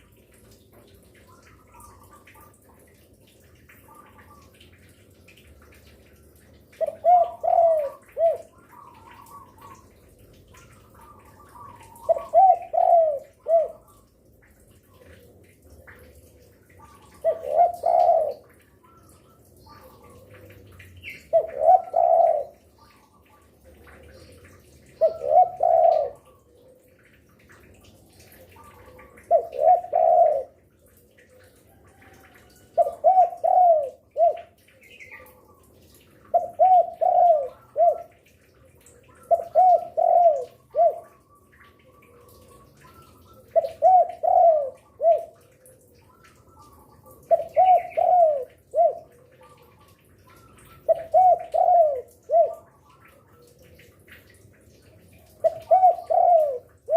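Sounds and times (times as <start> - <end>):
dove cooing: 6.3 - 14.1, 14.8 - 27.5, 28.1 - 54.5, 55.1 - 56.9.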